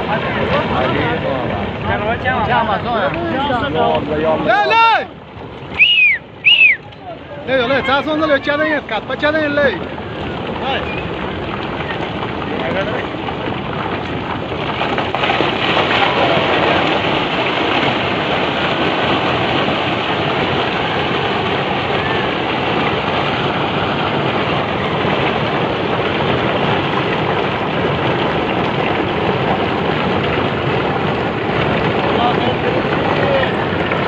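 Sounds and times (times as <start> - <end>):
debris flow rushing: 0.0 - 34.0.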